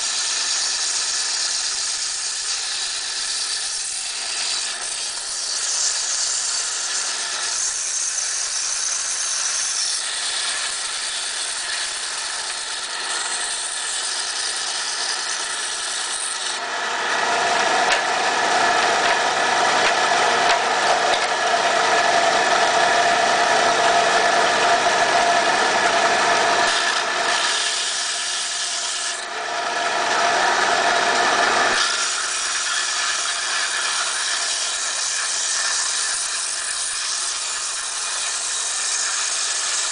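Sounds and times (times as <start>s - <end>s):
band saw cutting rock: 0.0s - 39.9s.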